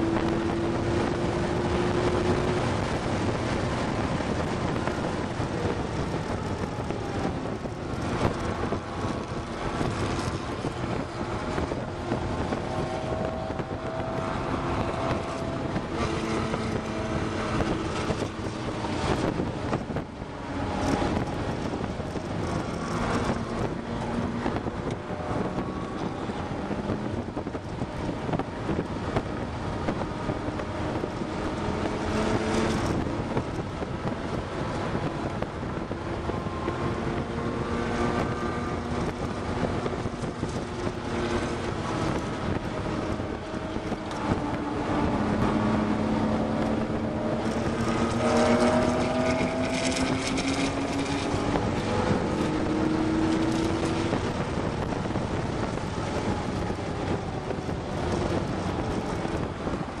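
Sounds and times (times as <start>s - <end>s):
car engine accelerating: 0.0s - 60.0s
road and wind noise: 0.0s - 60.0s.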